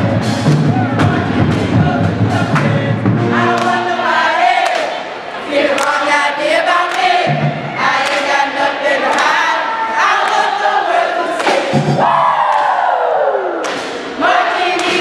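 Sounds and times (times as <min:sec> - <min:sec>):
music: 0:00.0 - 0:12.3, 0:13.8 - 0:15.0
crowd singing and chanting: 0:00.0 - 0:15.0.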